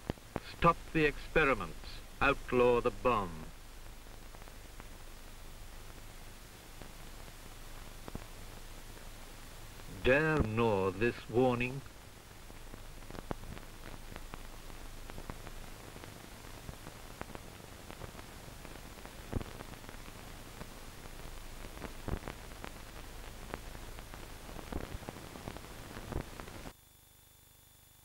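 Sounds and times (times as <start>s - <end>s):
crackles and pops: 0.0s - 26.7s
film soundtrack hiss: 0.0s - 28.0s.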